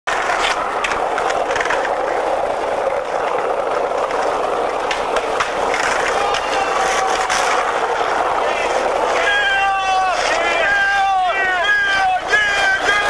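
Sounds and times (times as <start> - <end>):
skateboard clicks and knocks: 0.1 - 13.0
skateboard wheels rolling on asphalt: 0.1 - 13.0.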